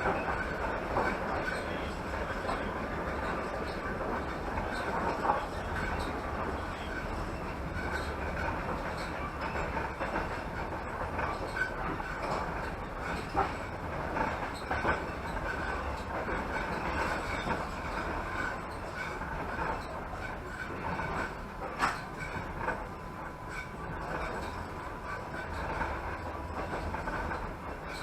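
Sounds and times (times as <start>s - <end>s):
train wheels rumbling on rails: 0.0s - 28.0s
wheels clacking over rail joints: 0.0s - 28.0s.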